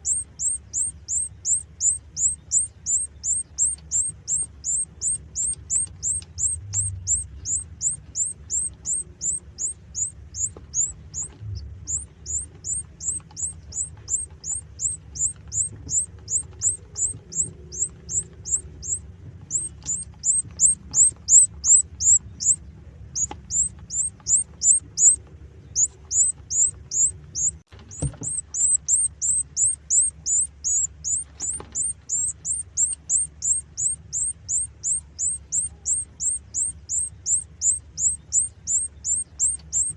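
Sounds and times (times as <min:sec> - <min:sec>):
bird hatchling cheeping: 0:00.0 - 0:39.9
faint low hum: 0:00.0 - 0:39.9.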